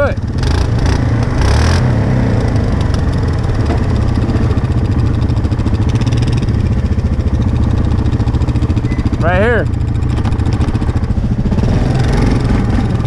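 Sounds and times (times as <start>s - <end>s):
quad engine running at low revs: 0.0s - 13.0s.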